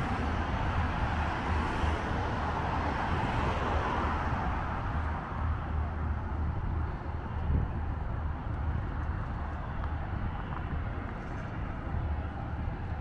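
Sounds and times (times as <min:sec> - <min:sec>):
road traffic noise: 0:00.0 - 0:13.0
wind rumble on microphone: 0:00.0 - 0:13.0.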